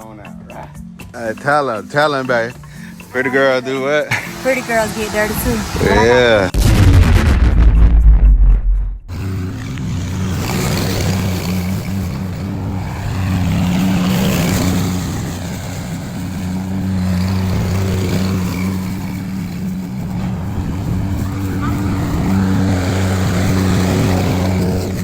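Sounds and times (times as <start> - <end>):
lawn mower engine running: 1.3 - 6.0, 9.1 - 25.0
heavy deep rumble: 5.0 - 25.0.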